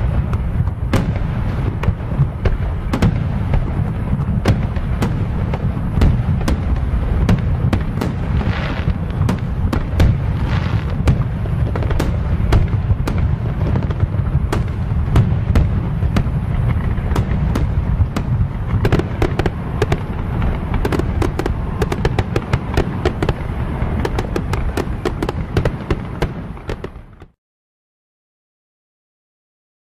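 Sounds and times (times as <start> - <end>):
fireworks cracks and crackles: 0.0 - 27.4.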